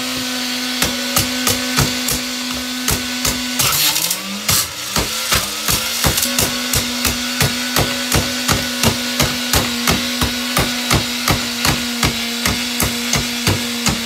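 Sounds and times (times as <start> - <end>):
vacuum motor humming: 0.0 - 14.0.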